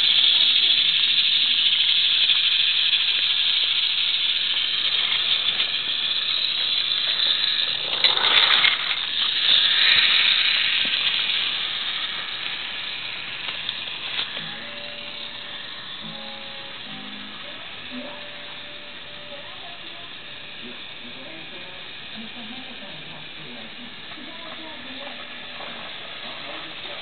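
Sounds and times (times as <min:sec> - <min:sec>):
toy train motor whirring: 0:00.0 - 0:27.0.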